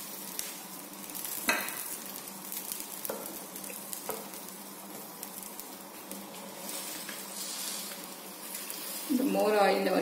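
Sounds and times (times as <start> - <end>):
flatbread sizzling in a pan: 0.0 - 10.0.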